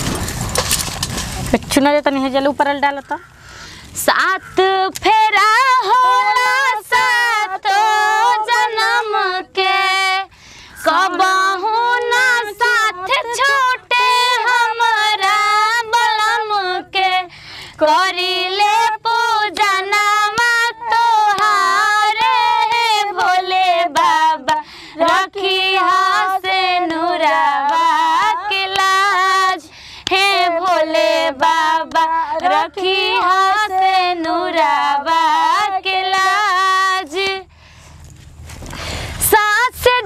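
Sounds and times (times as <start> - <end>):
woman singing unaccompanied: 4.0 - 37.5, 39.2 - 40.0.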